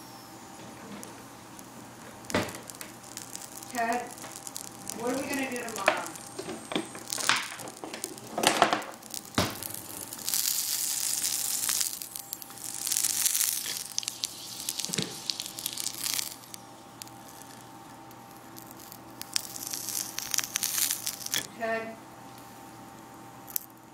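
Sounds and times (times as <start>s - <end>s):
orange sizzling in a frying pan: 0.0s - 23.8s.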